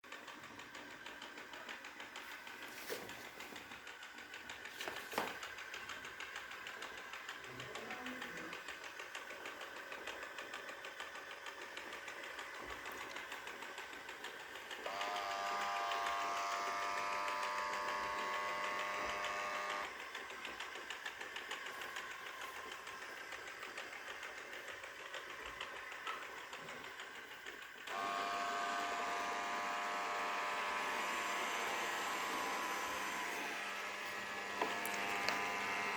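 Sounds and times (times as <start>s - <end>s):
robot vacuum buzzing rattle: 0.1s - 35.9s.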